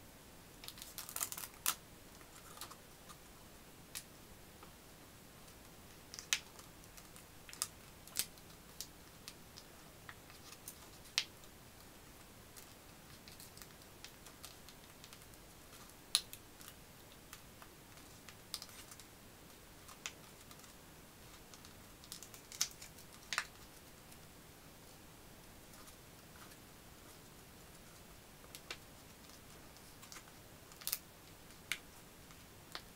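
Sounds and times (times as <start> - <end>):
faint steady hiss: 0.0 - 32.9.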